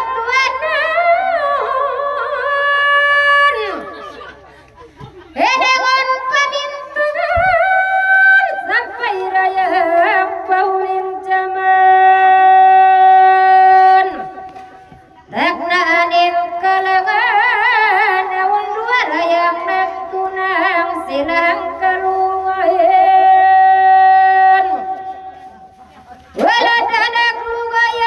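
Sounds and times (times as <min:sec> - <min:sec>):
person singing with vibrato: 0:00.0 - 0:04.2, 0:05.4 - 0:28.0.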